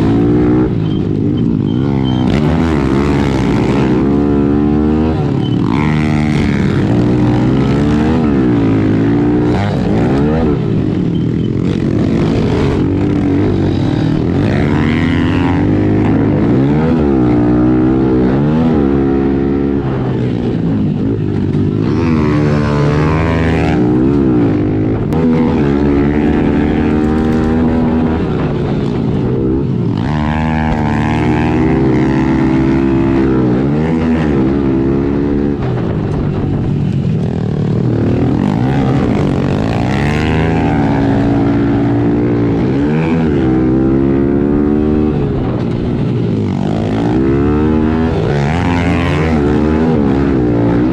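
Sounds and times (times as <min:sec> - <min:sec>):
pit bike engines revving: 0:00.0 - 0:50.9.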